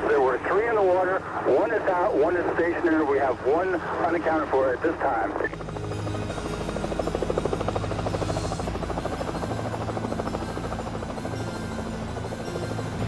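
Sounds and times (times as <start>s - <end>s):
helicopter rotor chopping: 0.0s - 13.0s
low engine drone: 0.0s - 13.0s.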